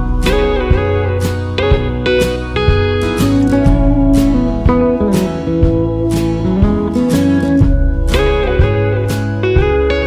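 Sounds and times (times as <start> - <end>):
steel guitar notes: 0.0 - 10.0
strummed guitar: 0.0 - 10.0.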